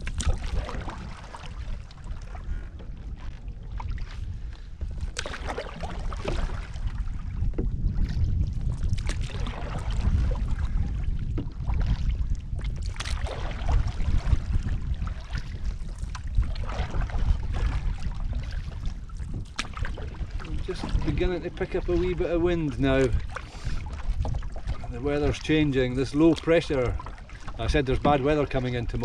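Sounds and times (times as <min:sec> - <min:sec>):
paddle swishing water: 0:00.0 - 0:29.0
wind on microphone: 0:00.0 - 0:29.0.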